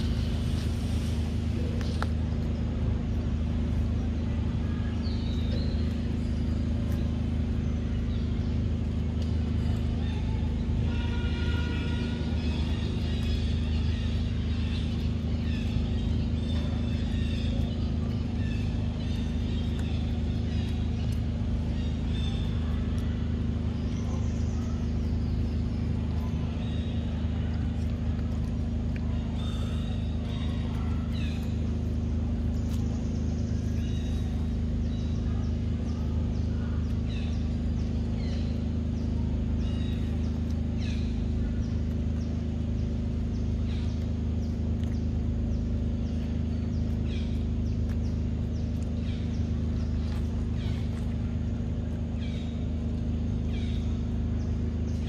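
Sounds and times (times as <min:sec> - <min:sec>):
low mechanical drone: 0:00.0 - 0:55.0.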